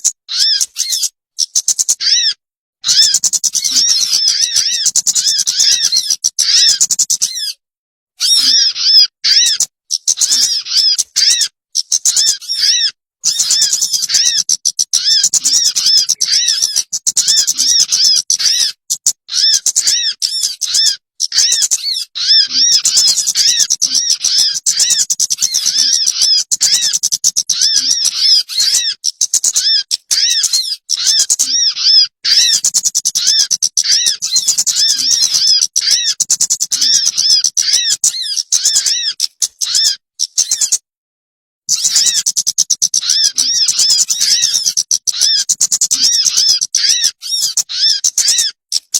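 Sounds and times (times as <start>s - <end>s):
songbird chirping: 0.0s - 7.6s, 8.2s - 40.8s, 41.7s - 48.9s.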